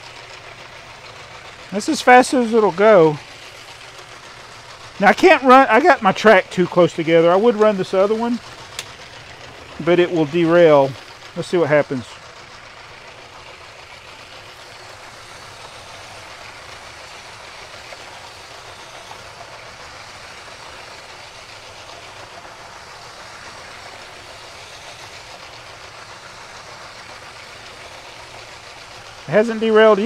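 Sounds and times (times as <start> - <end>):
toy trains running on track: 0.0 - 30.0.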